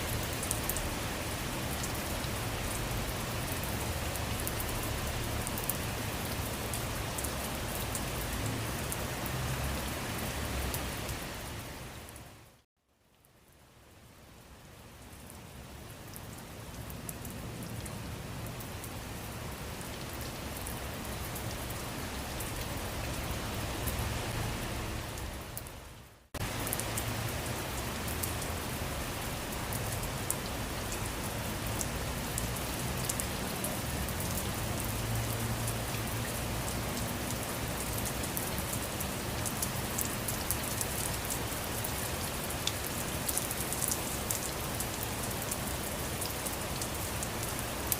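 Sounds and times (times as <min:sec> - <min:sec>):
sharp ticks of raindrops: 0:00.0 - 0:47.9
steady rain falling: 0:00.0 - 0:47.9.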